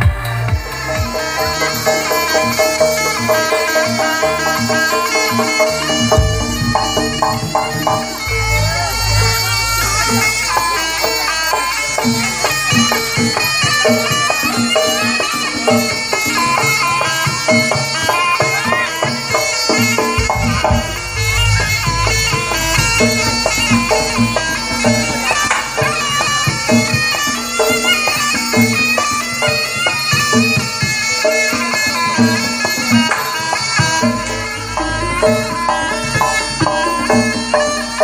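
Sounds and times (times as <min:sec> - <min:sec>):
drums and percussion beat: 0:00.0 - 0:38.0
reedy wind instrument melody: 0:00.0 - 0:38.0.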